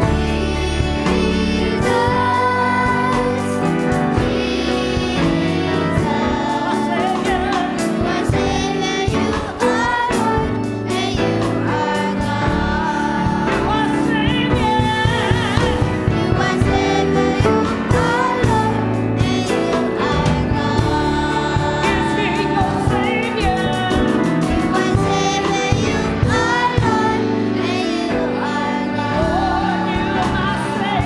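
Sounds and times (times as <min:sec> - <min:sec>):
choir singing: 0:00.0 - 0:31.0
instrumental accompaniment: 0:00.0 - 0:31.0.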